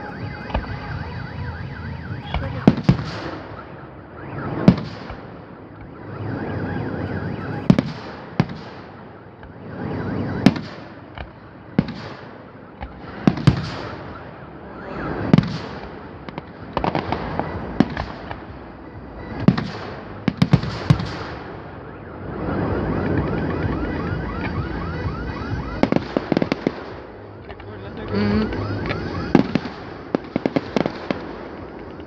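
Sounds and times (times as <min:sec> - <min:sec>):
fireworks bursting with sharp bangs: 0:00.0 - 0:32.0
rolling rumble and crackle: 0:00.0 - 0:32.0.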